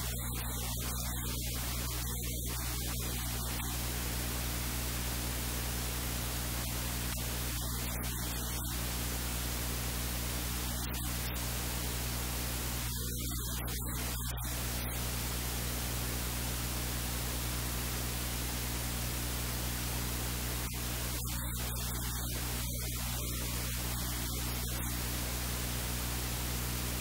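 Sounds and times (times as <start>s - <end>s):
low mains hum: 0.0s - 27.0s
recording hiss: 0.0s - 27.0s.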